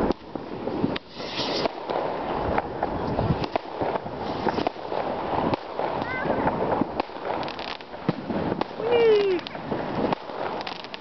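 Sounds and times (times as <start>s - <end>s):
firework hiss: 0.0s - 11.0s
fireworks bangs and cracks: 0.0s - 11.0s.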